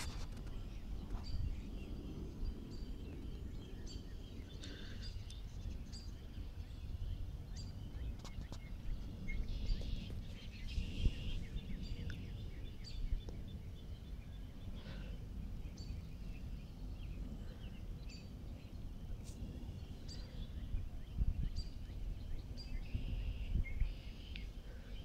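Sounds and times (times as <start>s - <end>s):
low outdoor rumble: 0.0s - 25.0s
small birds chirping: 0.0s - 25.0s.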